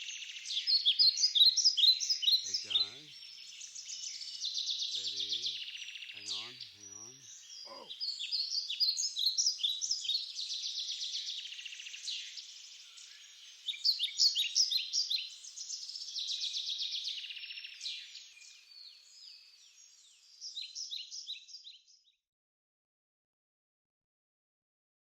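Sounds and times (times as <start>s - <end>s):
small birds chirping: 0.0s - 22.2s.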